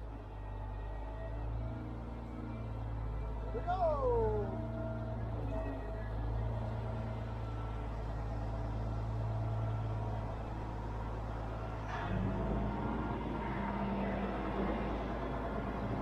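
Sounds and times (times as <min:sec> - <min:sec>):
heavy engine idling: 0:00.0 - 0:16.0.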